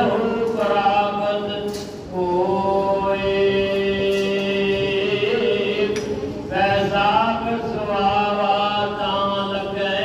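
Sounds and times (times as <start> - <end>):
man singing devotional song: 0.0 - 10.0.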